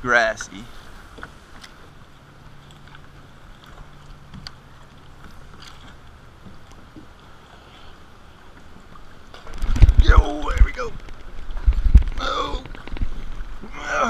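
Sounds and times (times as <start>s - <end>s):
waves lapping against kayak: 0.0s - 14.0s
wind: 0.0s - 14.0s.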